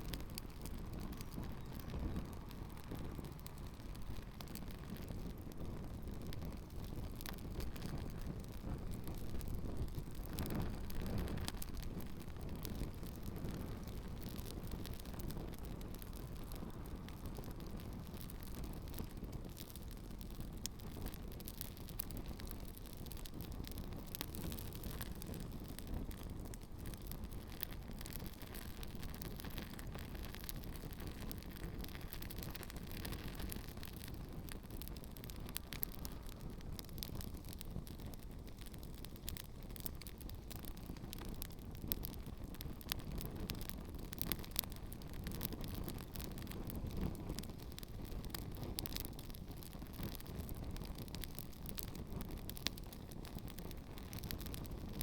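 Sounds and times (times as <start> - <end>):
campfire crackles and pops: 0.0 - 55.0.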